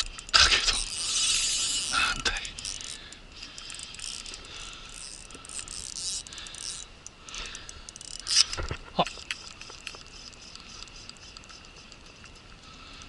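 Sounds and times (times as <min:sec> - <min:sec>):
fishing reel clicking and whirring: 0:00.0 - 0:13.0.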